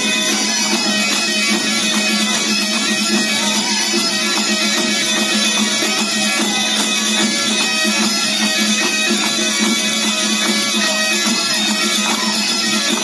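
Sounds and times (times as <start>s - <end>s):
bagpipes playing a folk dance tune: 0.0s - 13.0s
percussion beat: 0.0s - 13.0s.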